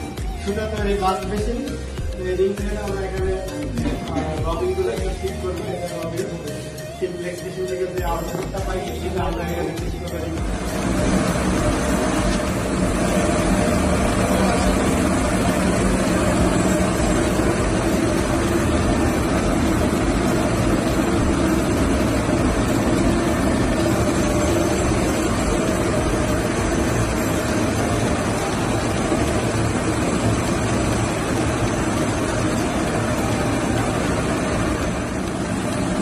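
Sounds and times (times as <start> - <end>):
spinning machinery whirring: 0.0 - 36.0.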